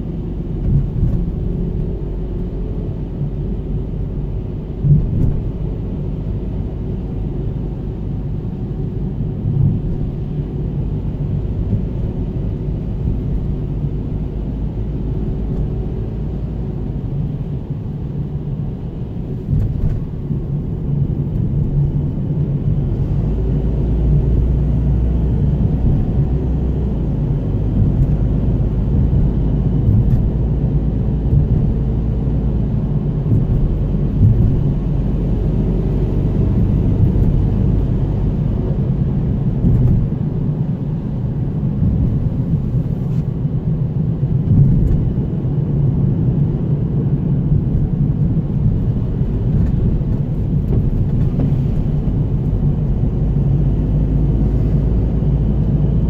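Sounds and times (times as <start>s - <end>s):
vehicle road rumble on wet asphalt: 0.0s - 56.0s.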